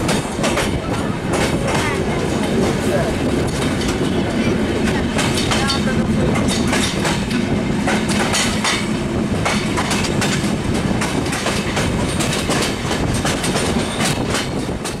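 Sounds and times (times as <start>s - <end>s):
train coach rumbling: 0.0s - 15.0s
wheels clacking over rail joints: 0.0s - 15.0s.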